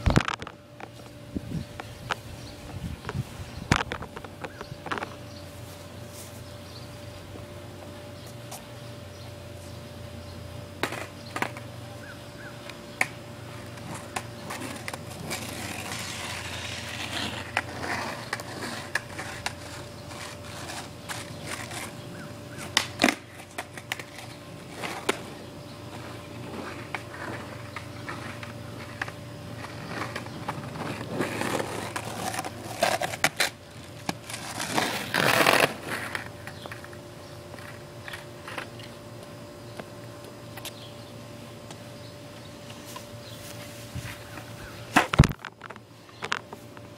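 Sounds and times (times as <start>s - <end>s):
skateboard wheels rolling on pavement: 0.0s - 46.9s.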